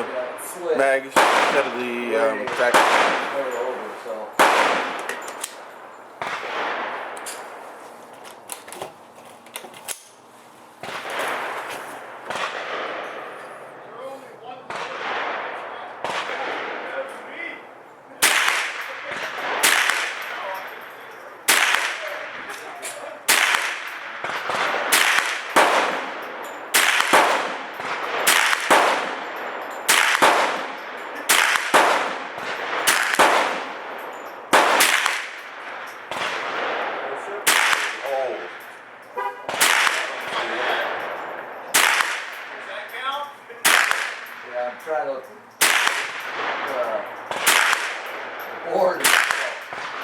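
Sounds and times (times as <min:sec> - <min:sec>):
rifle shots with echo: 0:00.0 - 0:07.8, 0:10.8 - 0:50.0.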